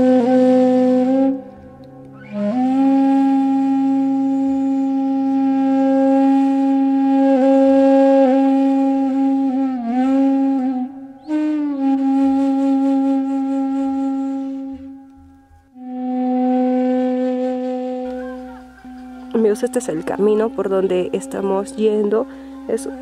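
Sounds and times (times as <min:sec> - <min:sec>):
breathy flute long notes: 0:00.0 - 0:23.0
low steady drone: 0:00.0 - 0:23.0.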